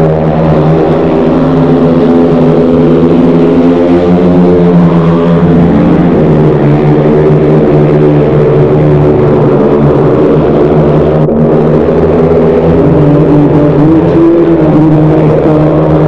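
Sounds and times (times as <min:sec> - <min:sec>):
motorcycles racing: 0:00.0 - 0:16.0.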